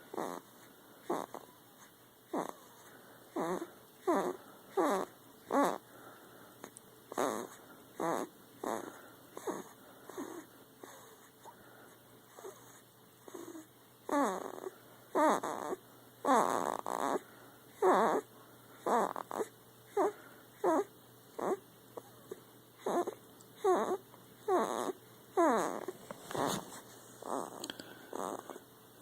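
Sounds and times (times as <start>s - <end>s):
pet snoring with squeaky breaths: 0.0s - 5.9s, 7.1s - 11.6s, 12.3s - 28.7s.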